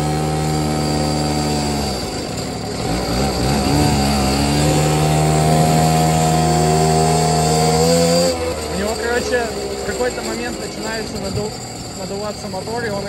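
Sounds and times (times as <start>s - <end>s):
small motorcycle engine revving: 0.0s - 13.0s.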